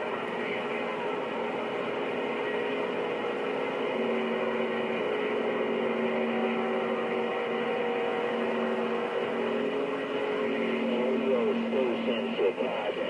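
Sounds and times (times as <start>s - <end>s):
radio static: 0.0s - 13.0s
steady humming radio tones: 0.0s - 13.0s.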